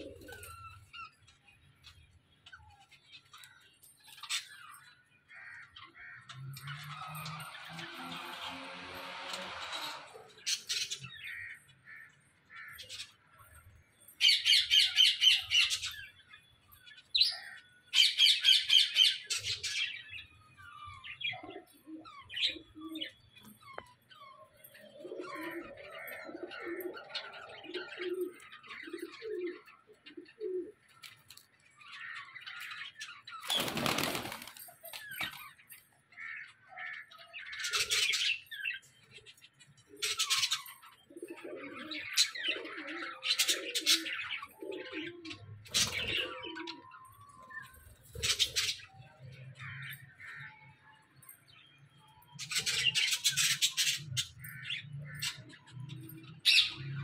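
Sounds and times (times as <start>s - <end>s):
aviary birds chattering: 0.0s - 57.0s.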